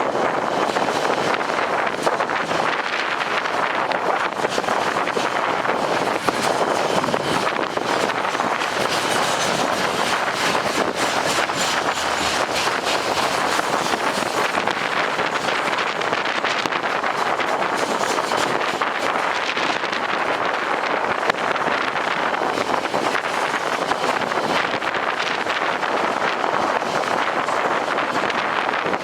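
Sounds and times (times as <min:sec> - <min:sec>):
train running: 0:00.0 - 0:29.0
wind buffeting microphone: 0:00.0 - 0:29.0.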